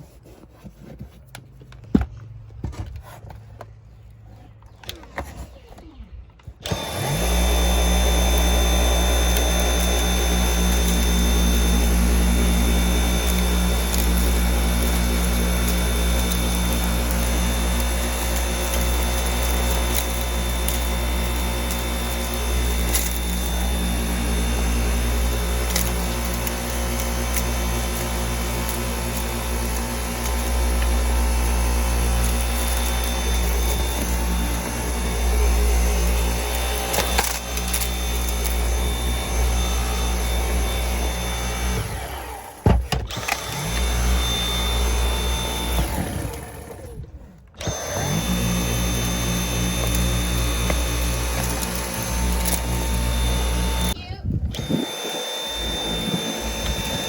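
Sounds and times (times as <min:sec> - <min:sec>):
grit clicking in vacuum: 0:06.6 - 0:41.8, 0:43.0 - 0:54.0
vacuum cleaner running: 0:06.6 - 0:57.0.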